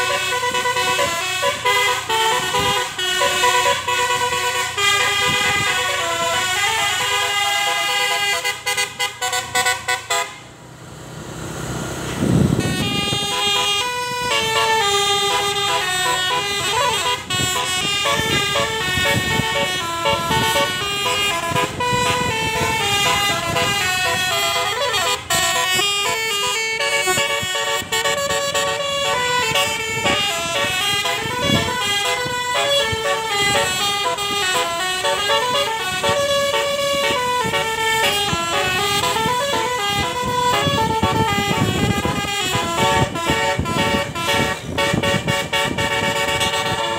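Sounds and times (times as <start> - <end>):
bus horn melody: 0.0 - 10.5, 12.4 - 46.9.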